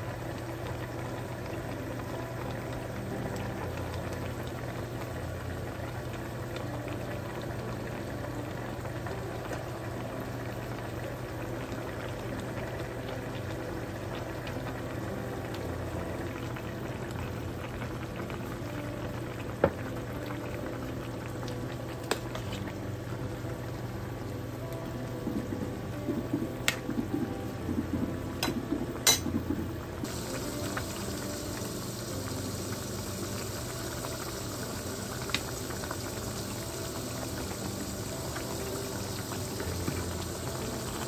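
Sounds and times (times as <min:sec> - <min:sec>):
broth boiling and bubbling: 0:00.0 - 0:41.0.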